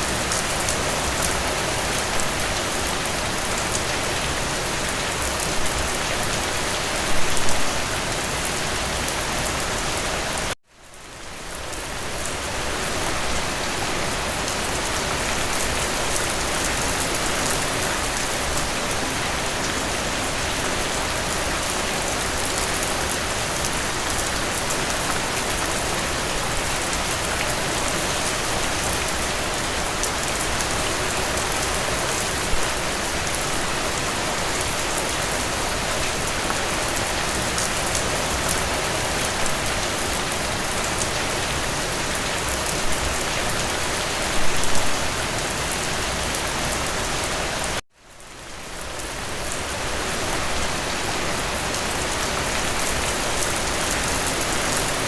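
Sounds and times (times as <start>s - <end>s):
dense rainfall: 0.0s - 55.0s.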